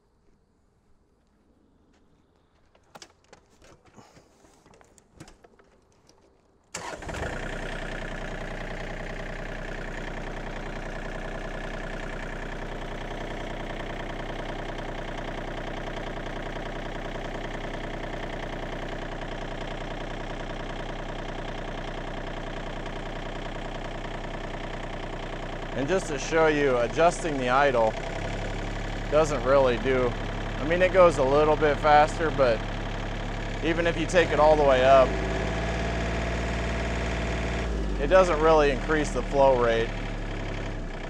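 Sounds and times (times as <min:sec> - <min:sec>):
diesel tractor engine idling: 0:06.7 - 0:41.0.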